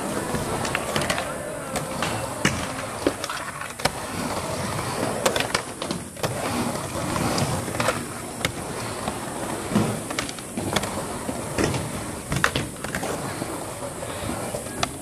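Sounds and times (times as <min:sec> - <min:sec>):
skateboard clacking on ramp: 0:00.0 - 0:15.0
skateboard wheels rolling: 0:00.0 - 0:15.0.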